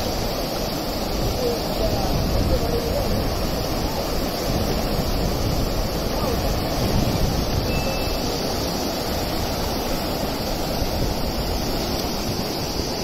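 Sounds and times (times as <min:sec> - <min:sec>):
floodwater rushing over rapids: 0:00.0 - 0:13.0.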